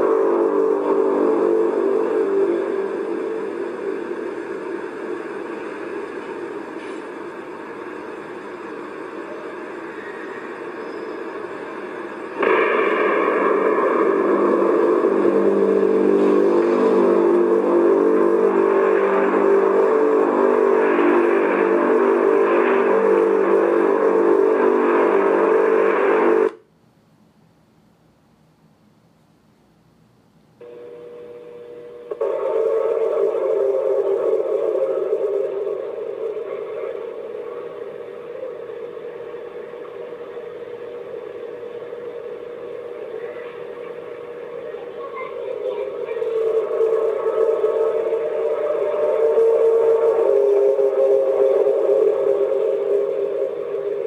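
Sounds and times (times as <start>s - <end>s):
loud low droning hum: 0.0s - 26.6s, 30.6s - 54.0s.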